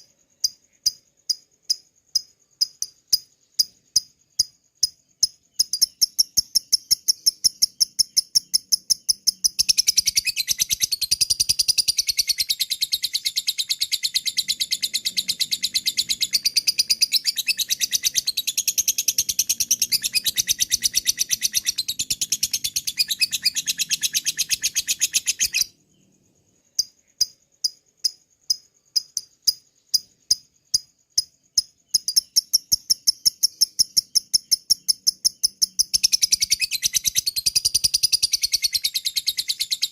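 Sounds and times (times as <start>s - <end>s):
bird sharp high chirps: 0.0s - 39.9s
bird chattering trill: 2.6s - 25.7s, 26.8s - 39.9s.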